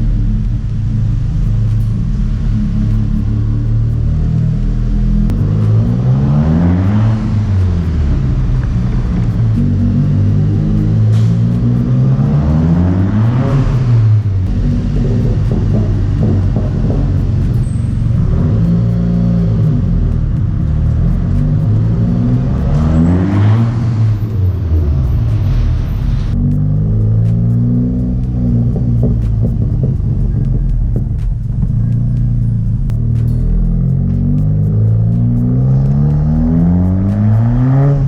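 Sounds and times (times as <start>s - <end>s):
car engine revving: 0.0s - 38.0s
exhaust crackles: 0.0s - 38.0s.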